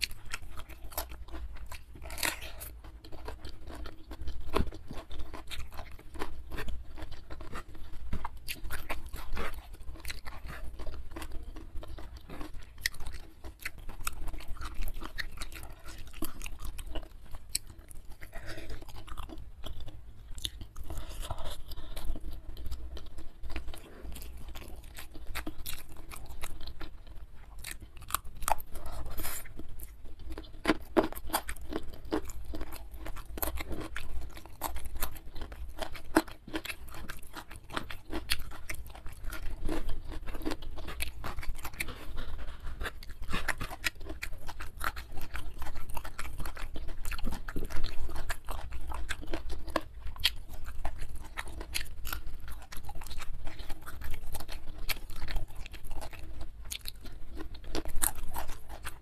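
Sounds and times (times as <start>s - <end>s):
chewing and crunching: 0.0s - 59.0s.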